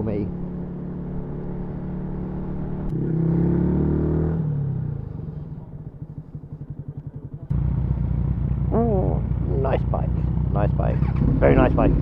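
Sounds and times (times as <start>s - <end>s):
motorcycle engine revving: 0.3s - 12.0s.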